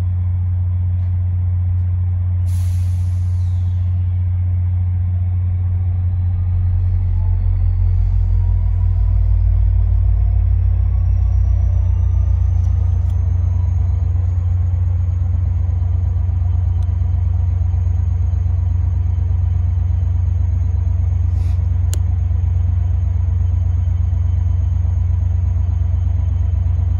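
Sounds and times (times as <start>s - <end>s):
diesel locomotive rumbling: 0.0s - 26.9s.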